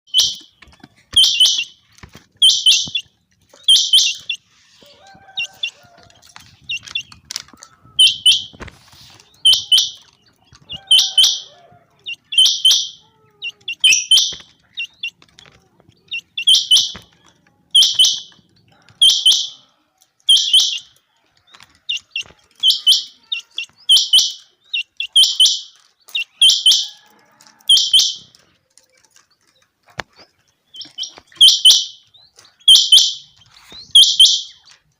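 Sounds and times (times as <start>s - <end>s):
quail calling: 0.1s - 28.5s.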